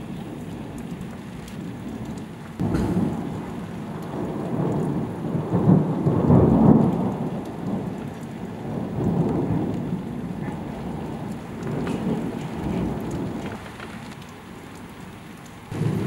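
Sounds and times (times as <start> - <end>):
thunder rumbling: 0.0 - 15.0, 15.6 - 16.0
heavy rain: 0.0 - 16.0.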